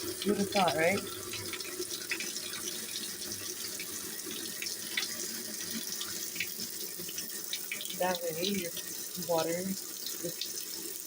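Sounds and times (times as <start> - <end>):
water pouring into washing machine: 0.0 - 11.0.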